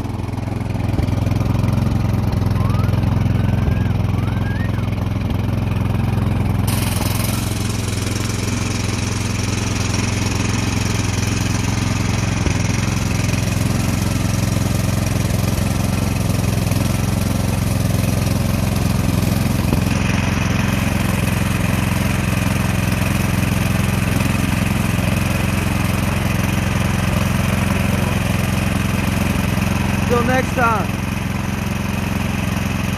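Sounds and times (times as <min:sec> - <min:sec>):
snowblower engine running: 0:00.0 - 0:32.9.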